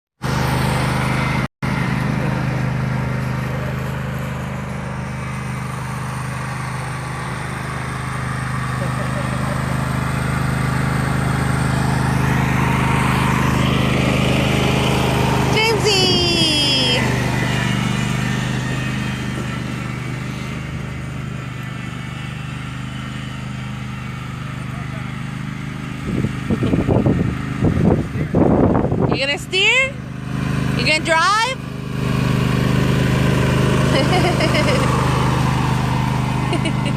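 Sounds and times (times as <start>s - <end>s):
riding lawn mower engine: 0.2s - 36.9s.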